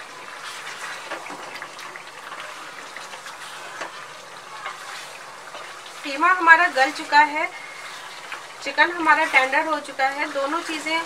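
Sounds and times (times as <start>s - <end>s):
curry sizzling in a frying pan: 0.0s - 11.0s
spatula scraping and tapping pan: 0.4s - 11.0s.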